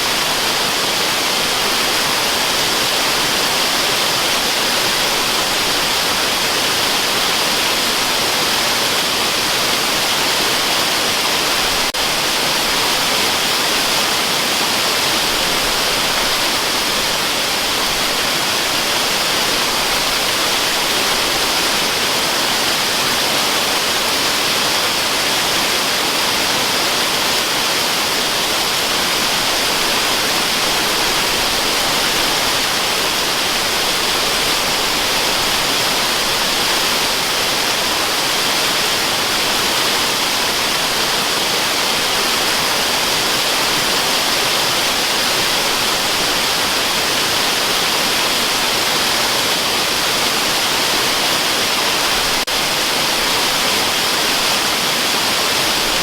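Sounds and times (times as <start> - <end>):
rush of waterfall noise: 0.0 - 56.0.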